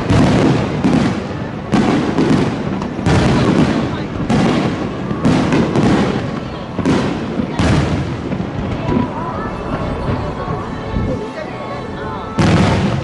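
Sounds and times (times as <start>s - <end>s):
firework booms: 0.0s - 13.0s
firework crackling: 0.0s - 13.0s.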